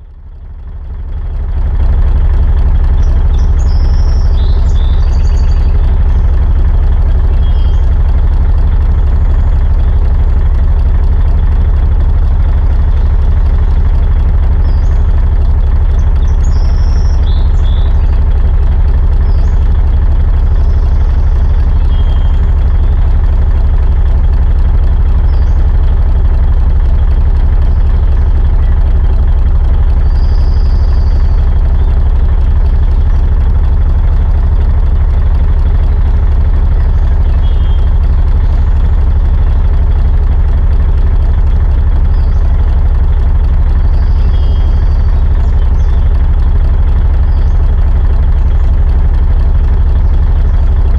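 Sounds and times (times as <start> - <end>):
diesel truck engine idling: 0.0 - 50.9.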